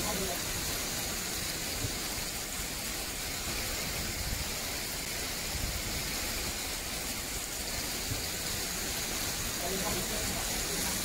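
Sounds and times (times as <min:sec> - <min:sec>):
hail and rain on asphalt: 0:00.0 - 0:11.0.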